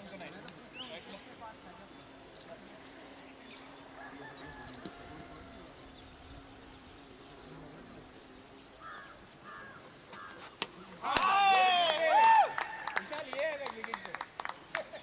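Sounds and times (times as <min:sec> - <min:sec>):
distant bird calls: 0:00.0 - 0:11.6, 0:12.6 - 0:15.0
open-air ambience: 0:00.0 - 0:15.0.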